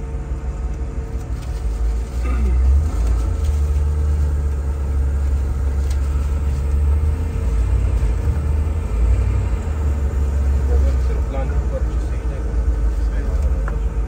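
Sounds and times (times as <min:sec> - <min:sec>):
engine low rumble: 0:00.0 - 0:14.0.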